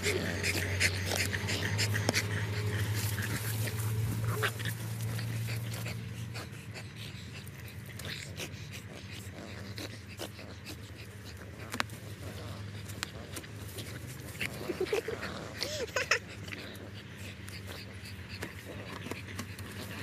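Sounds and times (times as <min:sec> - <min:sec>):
dogs panting: 0:00.0 - 0:20.0.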